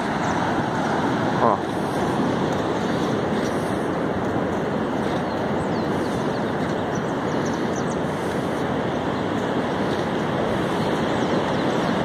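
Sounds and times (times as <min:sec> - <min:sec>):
ocean surf breaking on beach: 0:00.0 - 0:12.0
wind on microphone: 0:00.0 - 0:12.0.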